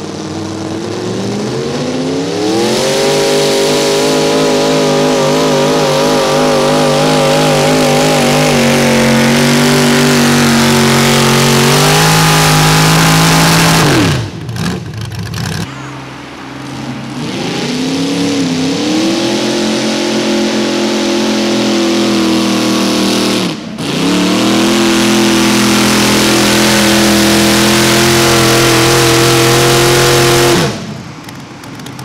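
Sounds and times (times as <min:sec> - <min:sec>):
tractor engine at full throttle: 0:00.0 - 0:32.0.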